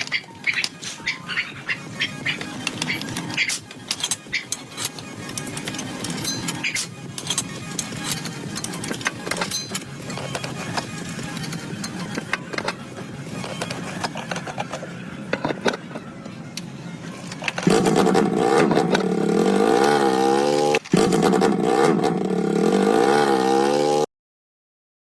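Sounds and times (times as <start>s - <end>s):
motorcycle engine revving: 0.0s - 14.2s, 17.6s - 24.1s.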